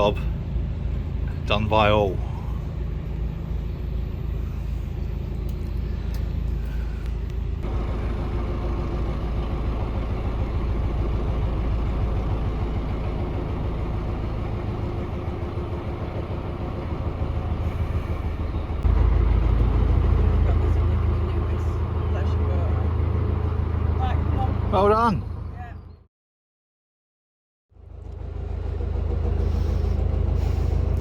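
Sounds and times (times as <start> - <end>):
boat diesel engine rumbling: 0.0 - 26.0, 27.7 - 31.0.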